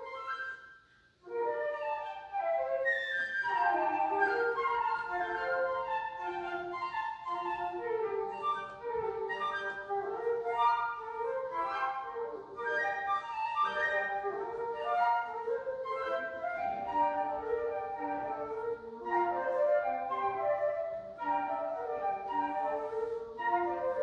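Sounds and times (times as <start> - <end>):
flute trio playing: 0.0 - 24.0.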